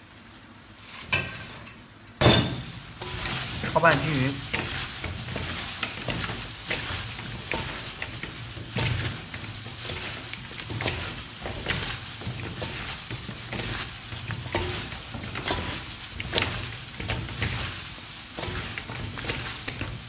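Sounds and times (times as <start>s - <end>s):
wet squishing and rustling: 0.0s - 1.4s, 2.5s - 20.0s.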